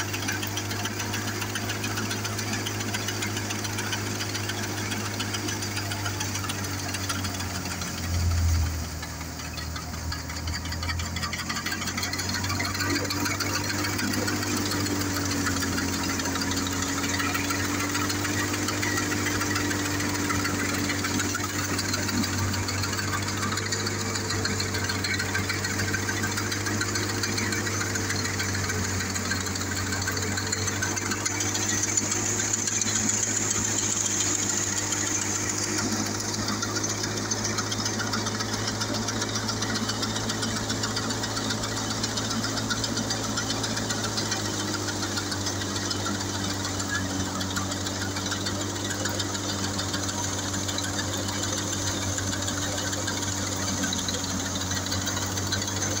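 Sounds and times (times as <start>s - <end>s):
thresher machine droning: 0.0s - 56.0s.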